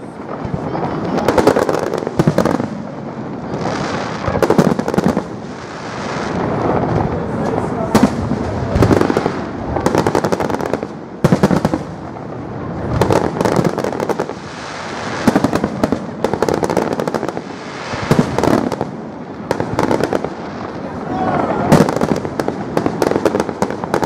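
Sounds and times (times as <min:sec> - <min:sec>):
crackling firework pops: 0:00.0 - 0:20.8, 0:21.6 - 0:24.0
firework shells booming: 0:00.0 - 0:20.8, 0:21.6 - 0:24.0.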